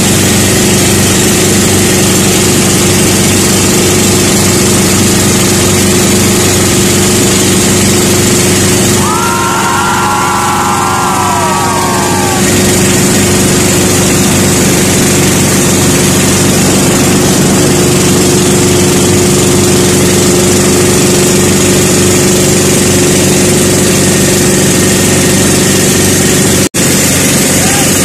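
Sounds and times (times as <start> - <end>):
boat engine running loudly: 0.0 - 28.0.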